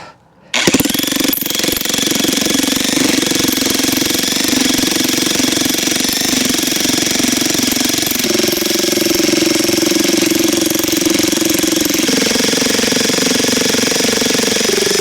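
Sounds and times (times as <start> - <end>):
electric jackhammer hammering wood: 0.6 - 15.0.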